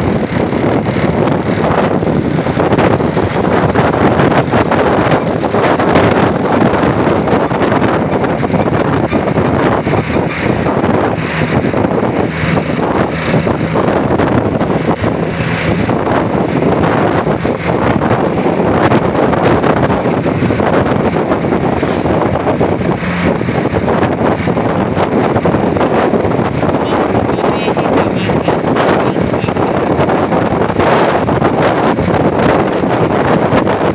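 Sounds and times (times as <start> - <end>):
roadside vehicle noise: 0.0 - 33.9
wind buffeting microphone: 0.0 - 33.9.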